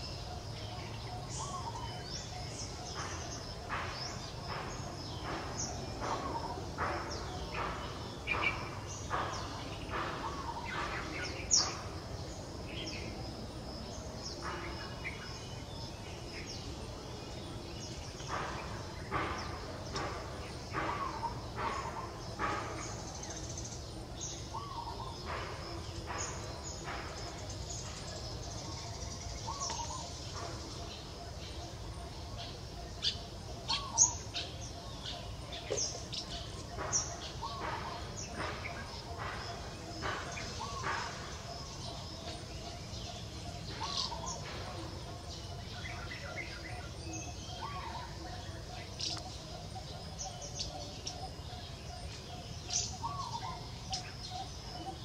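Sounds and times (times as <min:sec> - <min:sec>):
birds chirping: 0:00.0 - 0:55.0
low outdoor background noise: 0:00.0 - 0:55.0.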